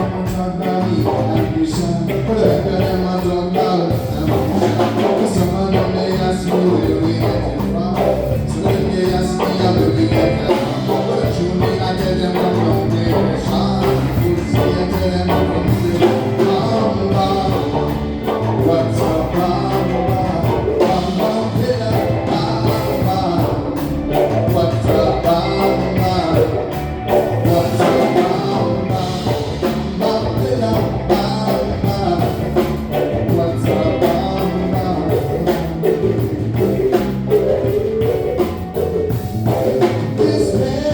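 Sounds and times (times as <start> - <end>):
guitar: 0.0 - 40.9
live band playing: 0.0 - 40.9
person singing: 0.0 - 40.9.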